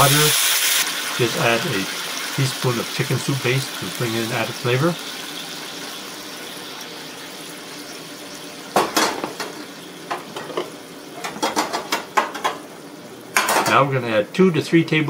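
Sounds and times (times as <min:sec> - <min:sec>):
food sizzling in a wok: 0:00.0 - 0:13.7.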